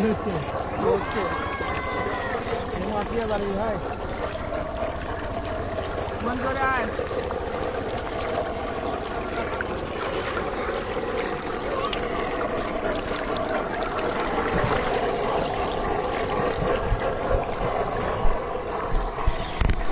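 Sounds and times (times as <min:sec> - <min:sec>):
fish splashing in water: 0:00.0 - 0:19.9.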